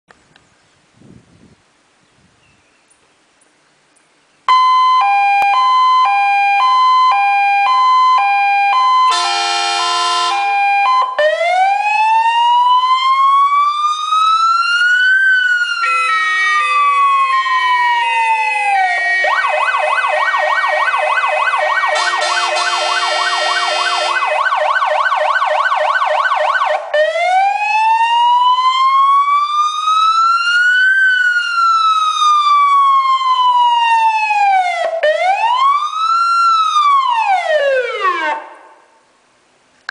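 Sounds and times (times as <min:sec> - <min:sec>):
fire engine siren: 0:04.5 - 0:38.9.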